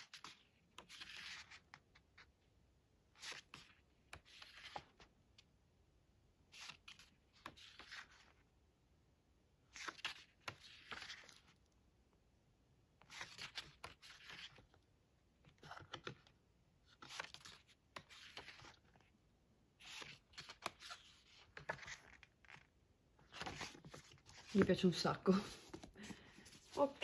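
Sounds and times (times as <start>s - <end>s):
book pages turning: 0.0s - 2.4s, 3.1s - 5.5s, 6.4s - 8.5s, 9.6s - 11.8s, 13.0s - 27.0s.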